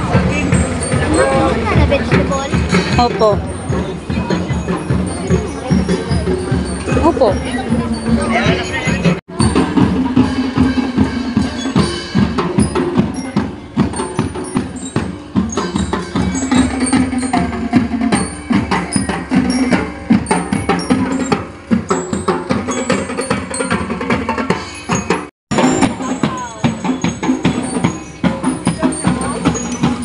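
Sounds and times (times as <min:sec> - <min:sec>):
drum band marching beat: 0:00.0 - 0:30.0.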